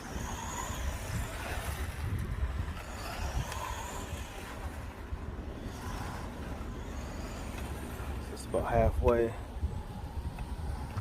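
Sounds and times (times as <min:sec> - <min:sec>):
toy car electric motor whine: 0:00.0 - 0:08.5, 0:09.4 - 0:11.0
wind buffeting microphone: 0:00.0 - 0:11.0.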